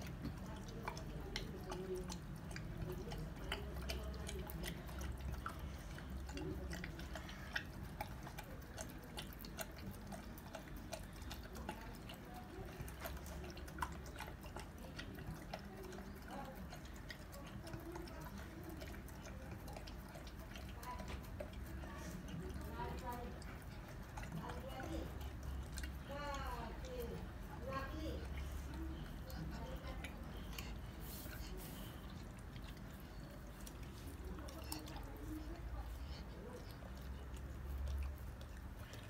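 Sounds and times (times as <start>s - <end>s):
dog lapping from metal bowl: 0.0s - 39.0s.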